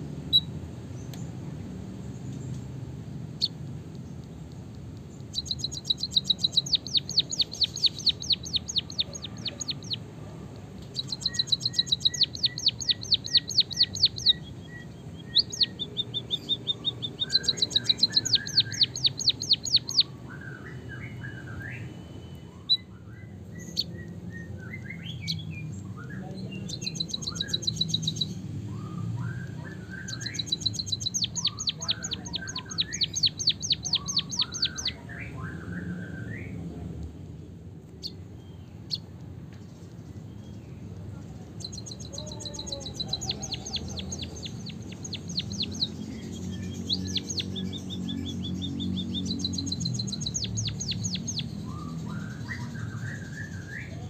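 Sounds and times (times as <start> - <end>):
soft bird chirps: 0.3 - 36.6, 37.9 - 54.0.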